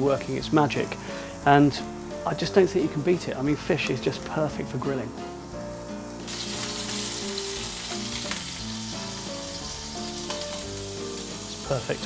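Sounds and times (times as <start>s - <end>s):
fish sizzling: 0.0s - 12.0s
soft background music: 0.0s - 12.0s.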